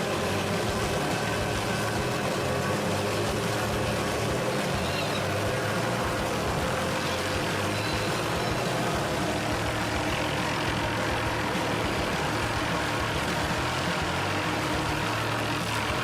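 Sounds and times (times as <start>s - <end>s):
large engine running: 0.0s - 16.0s.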